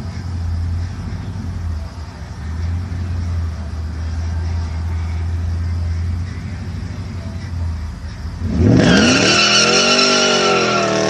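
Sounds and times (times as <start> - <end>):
pickup truck engine rumbling: 0.0 - 11.0.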